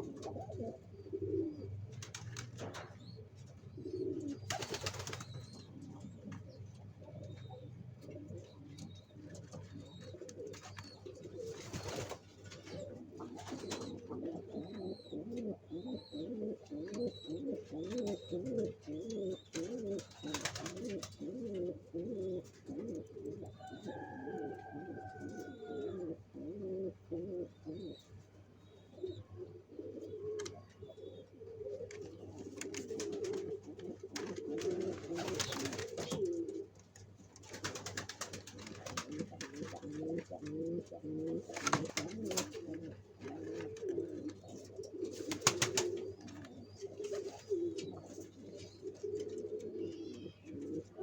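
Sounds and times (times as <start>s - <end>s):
pigeons cooing: 0.0s - 51.0s.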